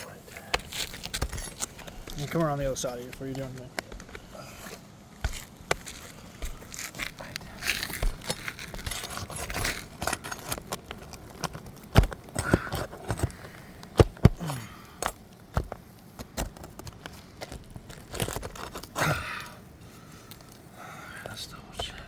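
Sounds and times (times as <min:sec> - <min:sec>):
hand tools scraping roof shingles: 0:00.3 - 0:19.2.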